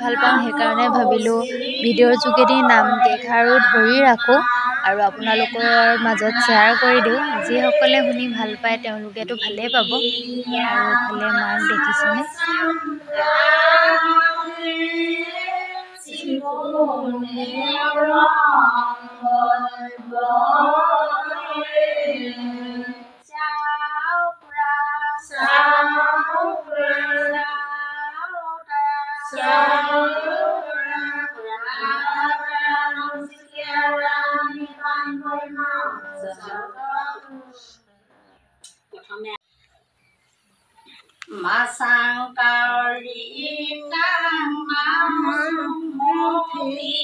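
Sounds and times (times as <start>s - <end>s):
women singing unaccompanied: 0.0s - 37.9s, 40.8s - 47.0s.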